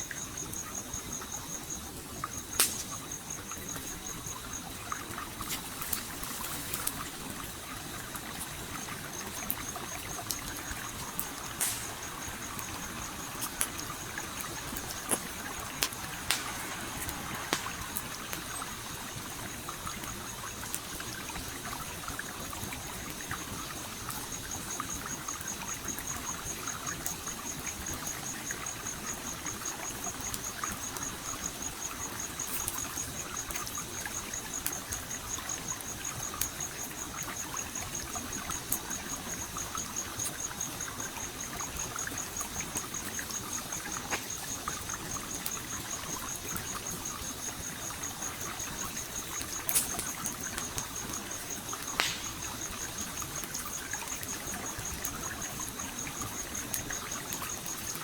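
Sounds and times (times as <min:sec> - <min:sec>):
campfire crackling and popping: 0:00.0 - 0:58.0
cricket chirping: 0:00.0 - 0:58.0
stream trickling: 0:00.0 - 0:58.0.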